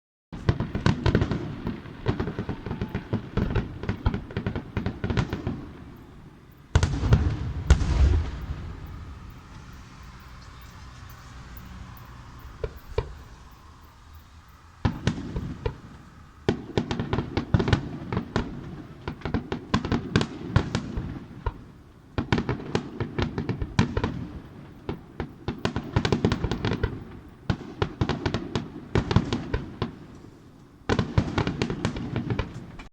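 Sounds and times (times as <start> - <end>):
fireworks bangs and crackles: 0.4 - 32.9.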